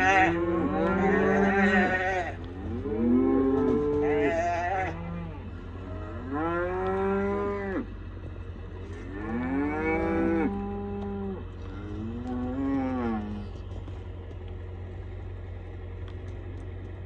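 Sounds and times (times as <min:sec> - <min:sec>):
cattle mooing: 0:00.0 - 0:13.7.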